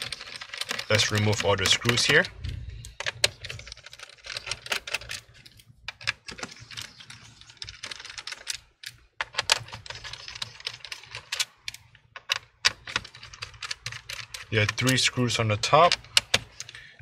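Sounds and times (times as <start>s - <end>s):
small screws handled: 0.0s - 16.9s.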